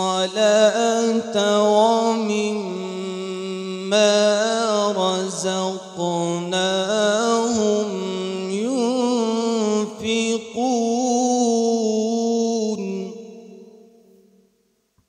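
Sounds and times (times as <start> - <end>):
man reciting melodically: 0.0 - 13.8.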